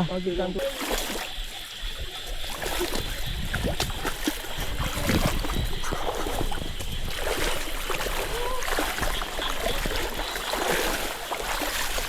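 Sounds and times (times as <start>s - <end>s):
wind rumbling on microphone: 0.0s - 12.0s
water splashes: 0.5s - 12.0s
stream water rushing: 0.6s - 12.0s.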